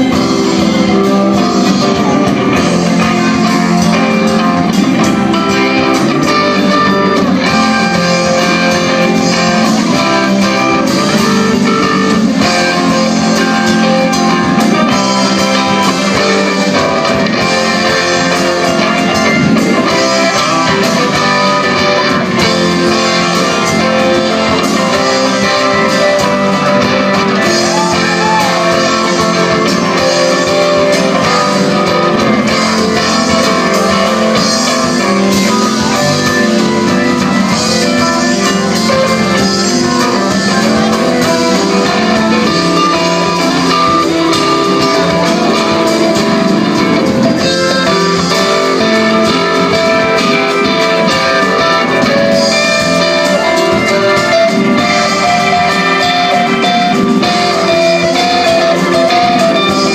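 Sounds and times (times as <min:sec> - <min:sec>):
live band with guitars: 0:00.0 - 0:59.9.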